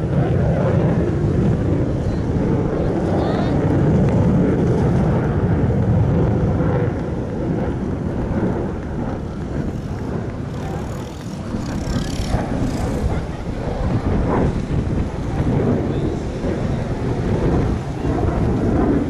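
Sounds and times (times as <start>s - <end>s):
distant fighter jet rumble: 0.0s - 19.0s
wind buffeting microphone: 0.0s - 19.0s.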